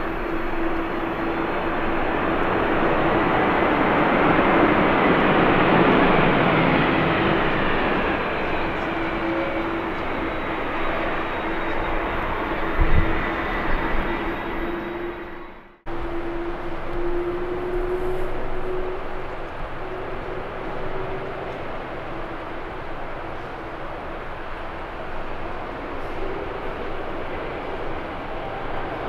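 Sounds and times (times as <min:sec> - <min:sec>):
jet airliner passing: 0:00.0 - 0:29.0.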